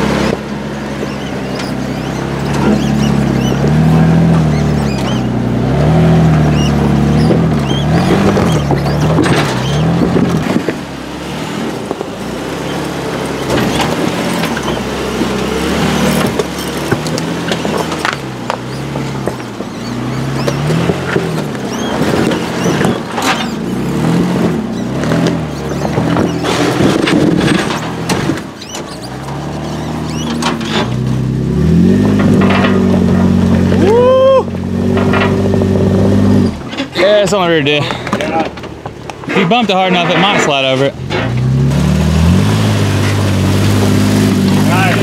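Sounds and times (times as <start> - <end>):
engine running at low revs: 0.0 - 39.3, 40.6 - 45.0.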